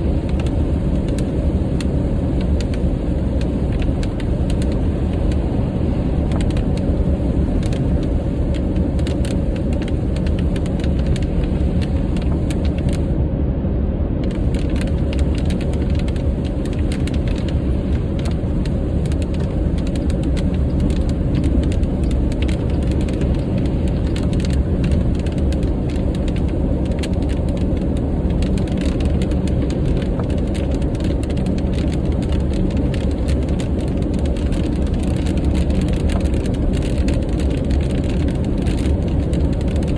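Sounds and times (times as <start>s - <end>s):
raindrops ticking on windshield: 0.0s - 13.2s, 14.2s - 39.9s
road and tyre noise: 0.0s - 39.9s.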